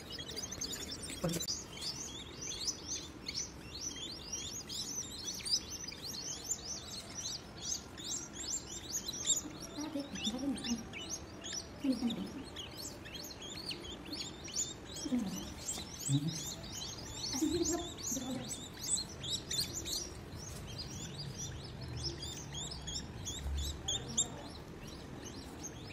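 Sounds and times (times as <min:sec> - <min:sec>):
chicks chirping: 0:00.0 - 0:25.9.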